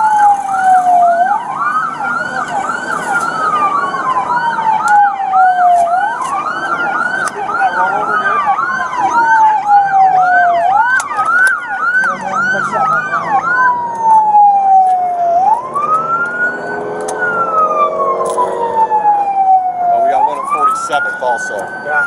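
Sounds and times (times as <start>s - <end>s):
siren wailing: 0.0s - 22.0s
siren yelping: 0.0s - 22.0s.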